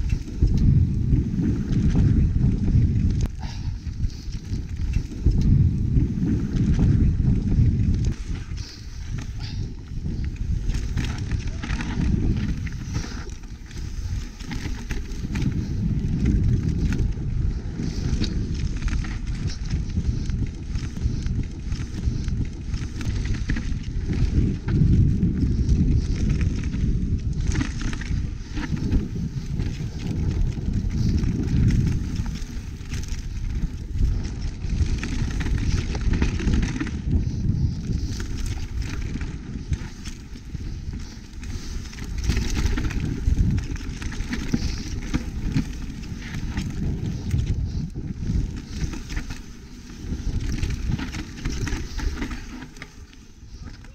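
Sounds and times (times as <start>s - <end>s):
bike chain and frame rattling: 0.0s - 53.9s
bike tyres rolling over dirt: 0.0s - 53.9s
wind rumble on microphone: 0.0s - 53.9s.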